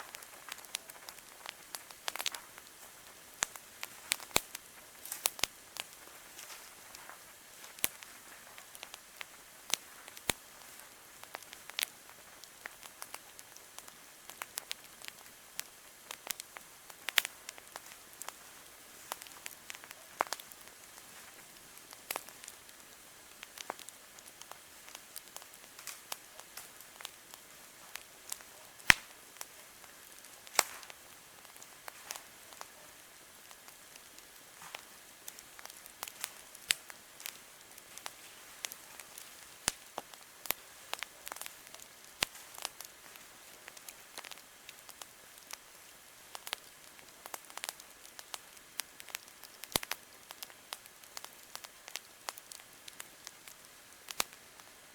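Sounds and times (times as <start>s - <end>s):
faint steady hiss: 0.0s - 54.9s
wood fire crackling: 0.0s - 54.9s.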